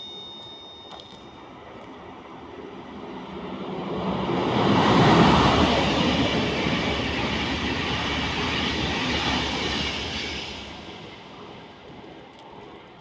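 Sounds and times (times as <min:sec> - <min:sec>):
train passing on tracks: 0:00.1 - 0:13.0.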